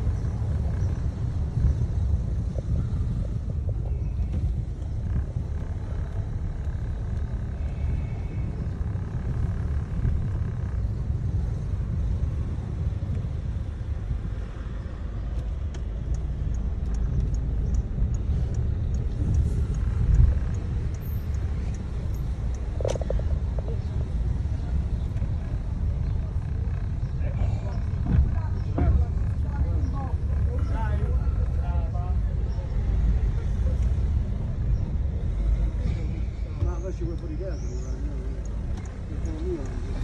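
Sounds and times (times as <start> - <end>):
faint ticking: 0.0 - 32.0, 36.6 - 40.0
car engine and road rumble: 0.0 - 40.0.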